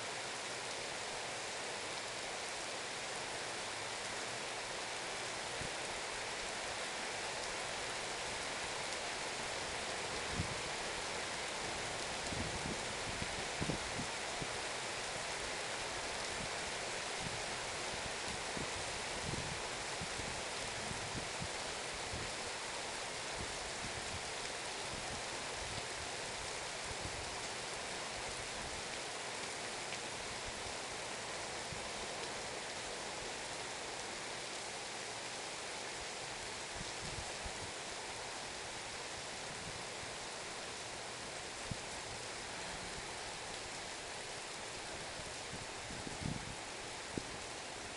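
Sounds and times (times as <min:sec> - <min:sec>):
steady rain downpour: 0:00.0 - 0:47.9.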